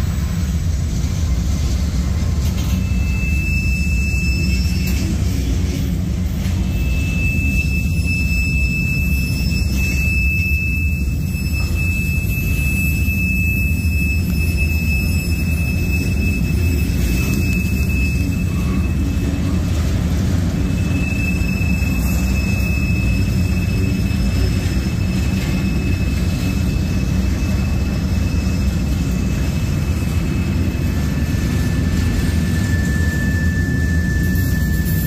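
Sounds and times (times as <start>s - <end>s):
high-pitched wheel squeal: 0.0s - 35.0s
train wheels rumbling on rail: 0.0s - 35.0s.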